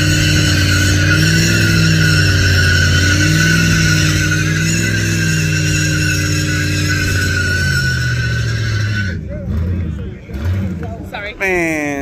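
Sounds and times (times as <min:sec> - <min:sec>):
engine at high revs: 0:00.0 - 0:12.0
tyres squealing: 0:00.0 - 0:12.0.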